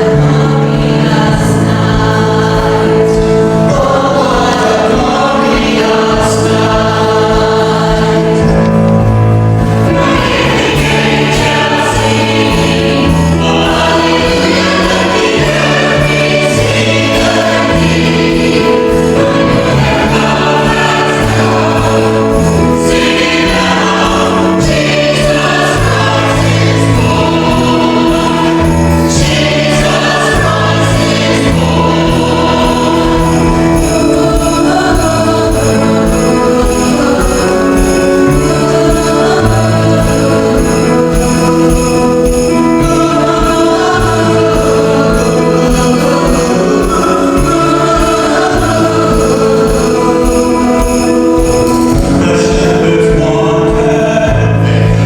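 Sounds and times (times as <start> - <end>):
choir singing: 0.0 - 55.0
instrumental accompaniment: 0.0 - 55.0.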